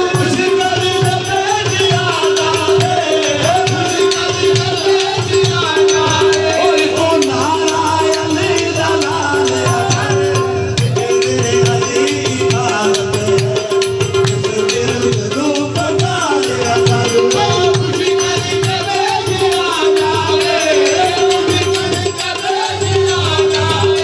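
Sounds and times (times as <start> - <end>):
hand drums beat: 0.0 - 24.0
man singing: 0.0 - 24.0.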